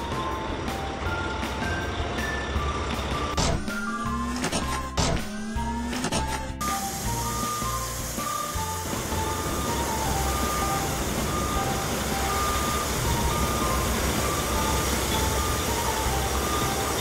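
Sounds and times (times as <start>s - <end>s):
beeping tune: 0.0s - 17.0s.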